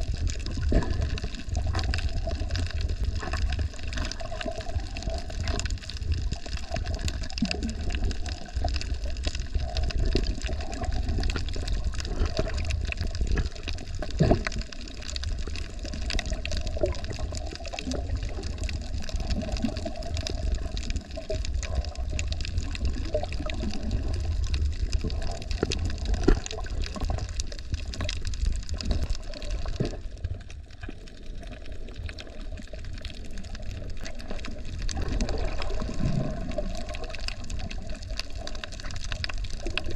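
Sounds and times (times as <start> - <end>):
muffled underwater rumble: 0.0 - 39.9
short clicks and crackles: 0.1 - 39.9.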